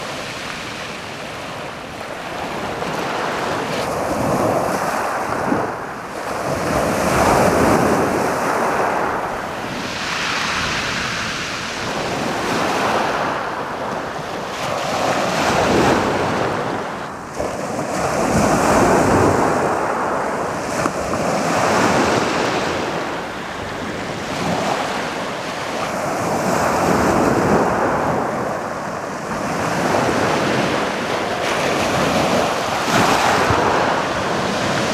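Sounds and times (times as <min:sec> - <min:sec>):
waves breaking on pebble beach: 0:00.0 - 0:34.9
wind buffeting microphone: 0:00.0 - 0:34.9.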